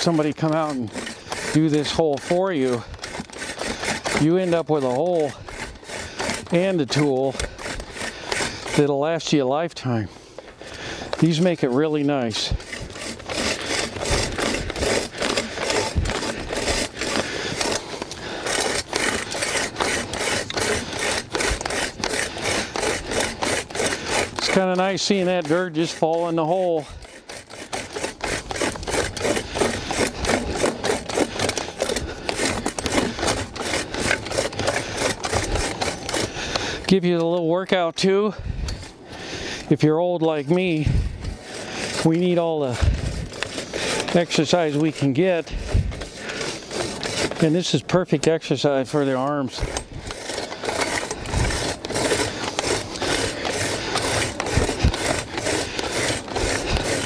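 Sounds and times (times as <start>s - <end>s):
hole reamer scraping soil: 0.0s - 57.0s.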